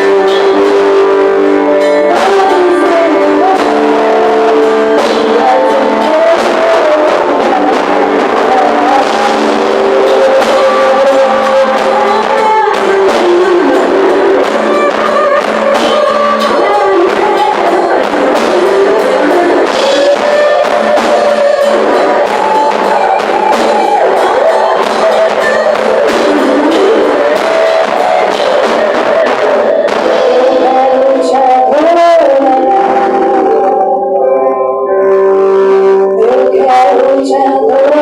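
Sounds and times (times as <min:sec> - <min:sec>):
live band singing with guitar: 0:00.0 - 0:38.0.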